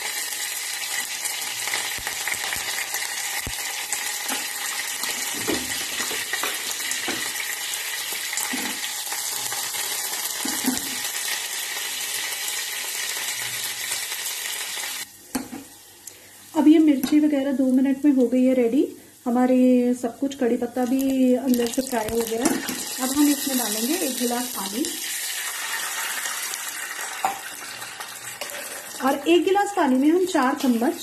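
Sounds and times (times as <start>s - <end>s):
hot oil sizzling in a pan: 0.0s - 31.0s.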